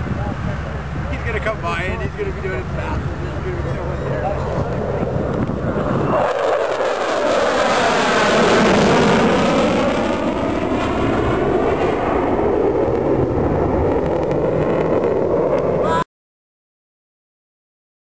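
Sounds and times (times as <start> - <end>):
fighter jet engines passing: 0.0 - 16.0.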